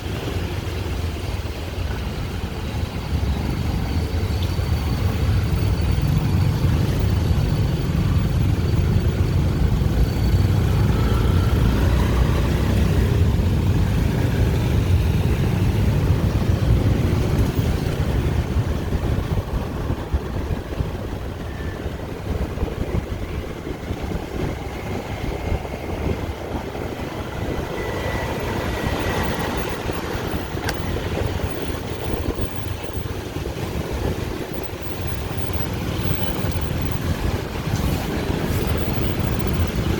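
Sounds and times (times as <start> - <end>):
dense street traffic: 0.0 - 39.9.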